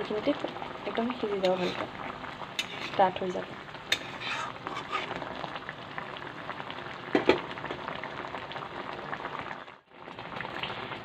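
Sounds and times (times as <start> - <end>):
curry bubbling and sizzling: 0.0 - 11.0.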